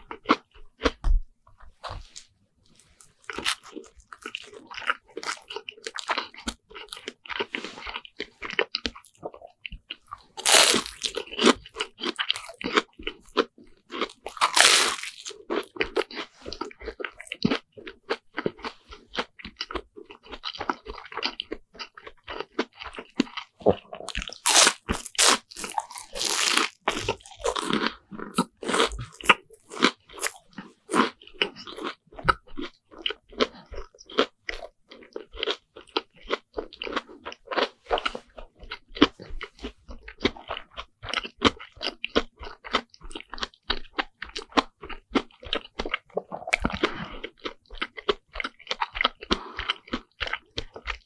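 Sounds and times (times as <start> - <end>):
crunching fried sandwich: 9.9 - 51.0.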